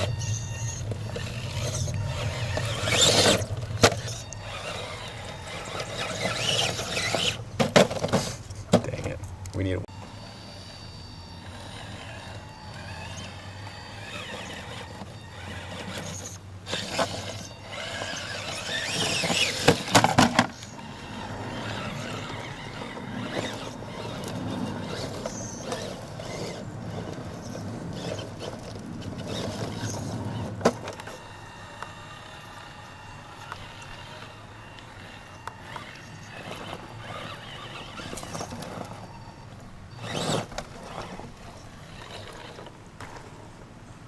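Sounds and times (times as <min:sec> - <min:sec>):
electric motor whining: 0:00.0 - 0:08.2, 0:09.4 - 0:43.2.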